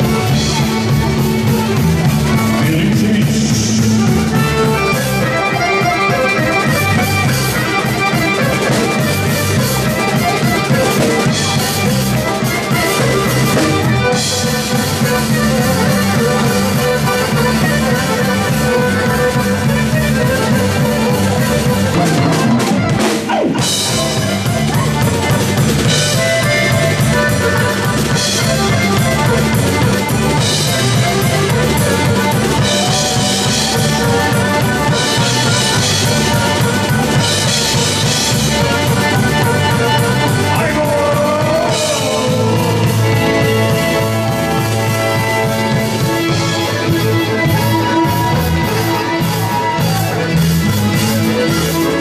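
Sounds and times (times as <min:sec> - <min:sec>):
accordion: 0:00.0 - 0:52.0
drum kit: 0:00.0 - 0:52.0.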